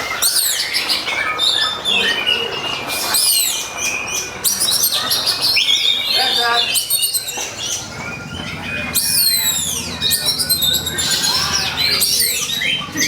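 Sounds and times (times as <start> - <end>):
magpie-robin singing: 0.0 - 13.0.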